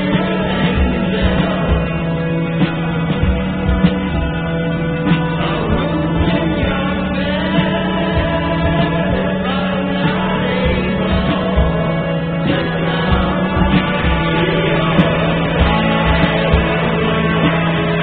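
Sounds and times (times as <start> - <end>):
singing over a steady beat: 0.0 - 18.0.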